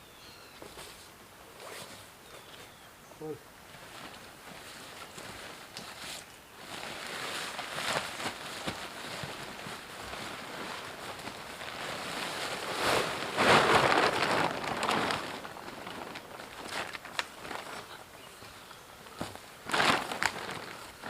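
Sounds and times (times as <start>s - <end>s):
tent fabric rustling: 0.6s - 2.8s, 3.6s - 21.0s.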